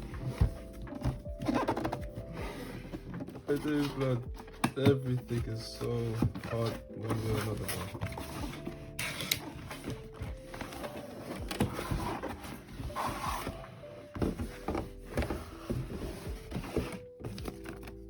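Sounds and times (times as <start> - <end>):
background music: 0.0 - 18.0
packaging clicks and knocks: 0.0 - 18.0.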